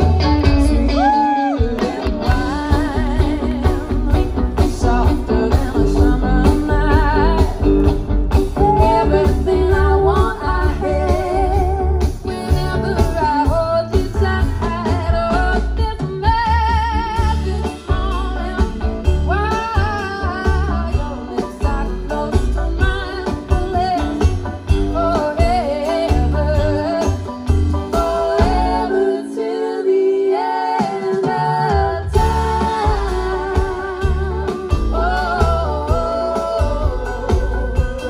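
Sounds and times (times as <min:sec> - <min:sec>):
upright bass: 0:00.0 - 0:29.4, 0:31.1 - 0:38.0
drums: 0:00.0 - 0:38.0
electric guitar: 0:00.0 - 0:38.0
woman singing: 0:00.0 - 0:38.0.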